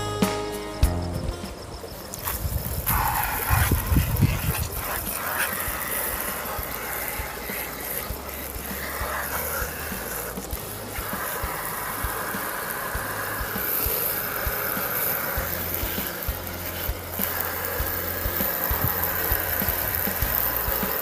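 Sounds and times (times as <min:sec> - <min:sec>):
continuous hiss: 0:00.0 - 0:21.0
engine idling: 0:00.9 - 0:21.0.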